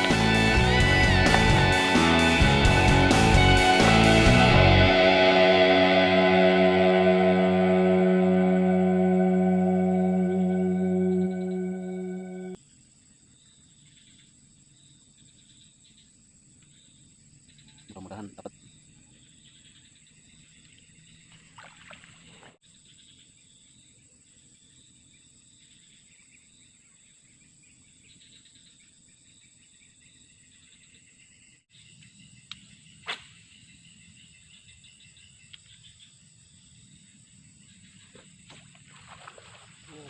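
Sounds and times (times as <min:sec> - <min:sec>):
insects chirping: 0:05.0 - 0:40.0.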